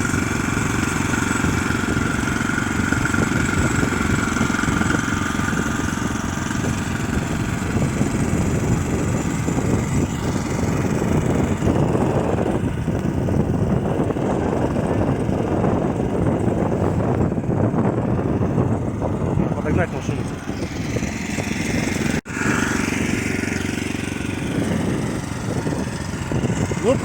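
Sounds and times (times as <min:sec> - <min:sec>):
walk-behind tractor engine running: 0:00.0 - 0:27.0.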